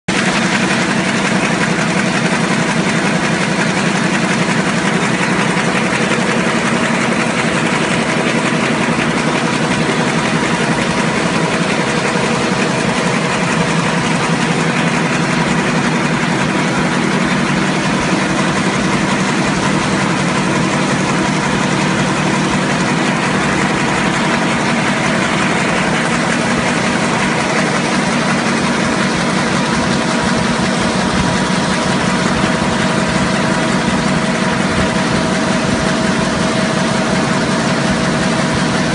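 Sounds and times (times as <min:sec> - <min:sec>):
printing press humming and clattering: 0:00.1 - 0:38.9.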